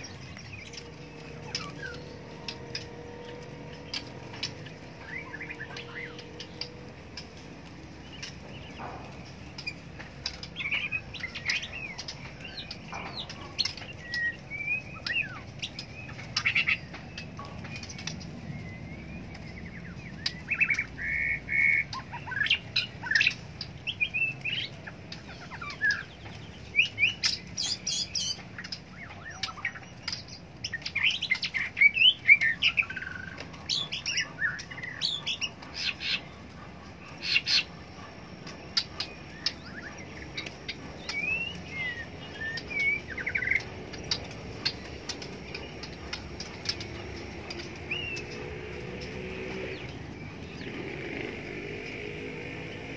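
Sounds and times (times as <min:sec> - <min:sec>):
birds singing whistled phrases: 0:00.0 - 0:52.9.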